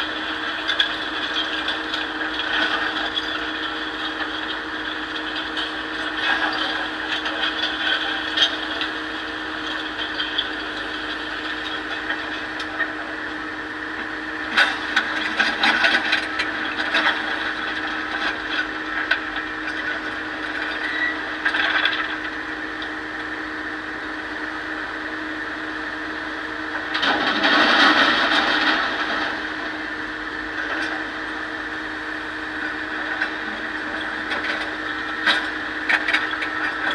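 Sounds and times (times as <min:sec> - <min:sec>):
excavator engine droning: 0:00.0 - 0:36.9.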